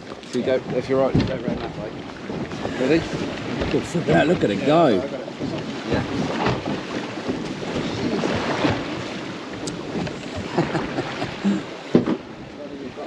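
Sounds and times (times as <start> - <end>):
water washing against boat hull: 0.0 - 13.0
wind buffeting microphone: 0.0 - 13.0.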